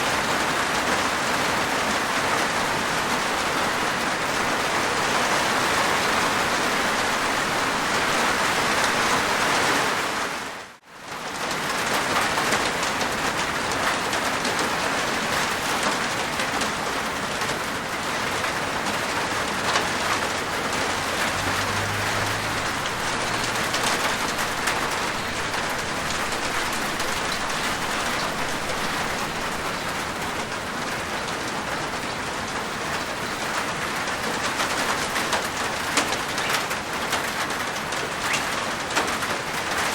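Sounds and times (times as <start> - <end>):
heavy rain on a rooftop: 0.0 - 39.9.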